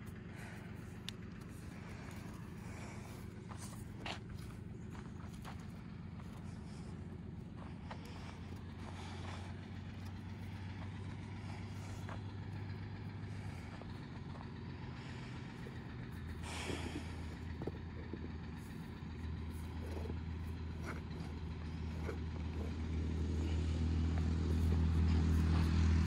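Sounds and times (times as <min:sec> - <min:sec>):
horses moving on dirt: 0:00.0 - 0:26.0
low engine hum: 0:00.0 - 0:26.0.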